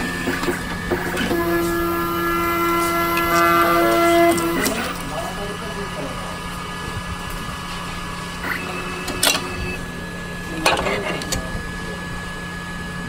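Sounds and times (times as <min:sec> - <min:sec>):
card printer humming and whining: 0:00.0 - 0:13.0.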